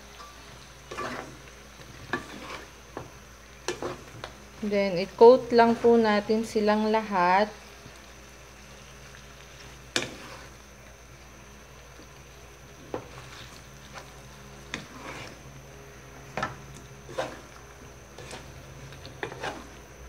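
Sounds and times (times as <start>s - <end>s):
spatula stirring sticky food: 0.0s - 8.2s, 8.8s - 10.7s, 11.8s - 20.0s
low steady hum: 0.0s - 20.0s.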